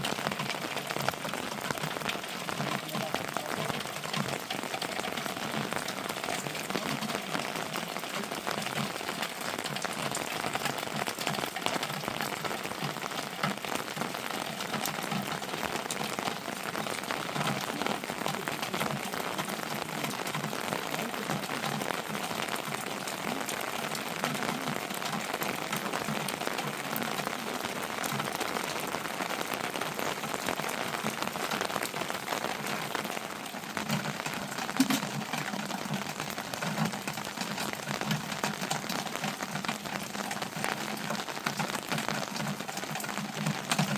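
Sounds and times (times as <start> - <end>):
rain falling steadily: 0.0 - 43.9.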